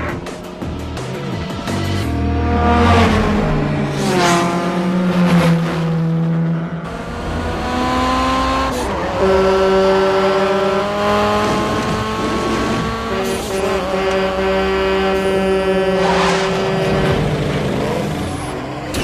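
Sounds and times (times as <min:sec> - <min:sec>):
car engines running hard: 0:00.0 - 0:19.0.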